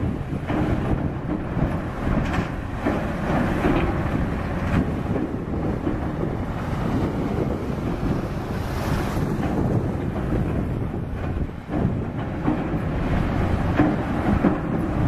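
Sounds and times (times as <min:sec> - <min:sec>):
diesel engines running: 0:00.0 - 0:15.0
wind on microphone: 0:00.0 - 0:15.0.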